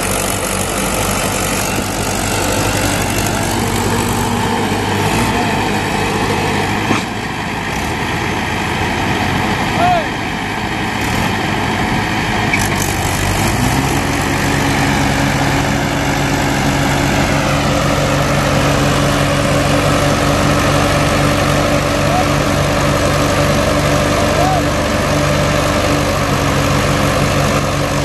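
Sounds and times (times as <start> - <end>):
tractor diesel engines under load: 0.0 - 28.0.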